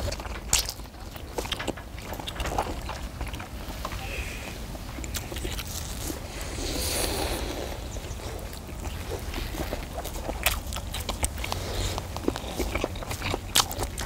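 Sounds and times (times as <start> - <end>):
people biting and chewing: 0.0 - 14.0.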